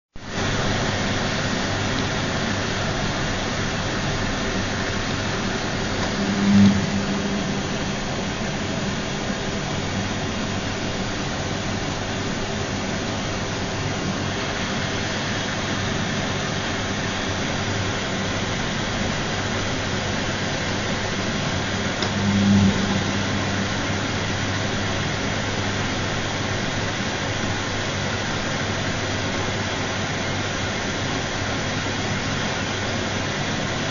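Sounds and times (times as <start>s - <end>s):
washing machine whirring hum: 0.2s - 33.9s.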